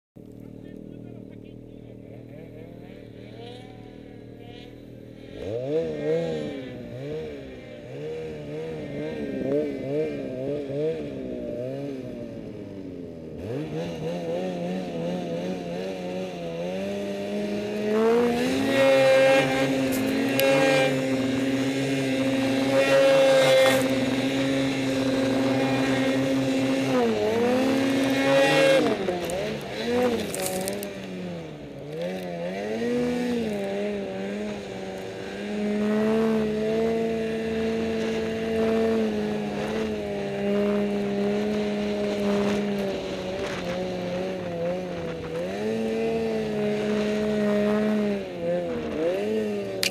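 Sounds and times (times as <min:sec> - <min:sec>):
snowmobile engine revving: 0:00.3 - 0:49.9.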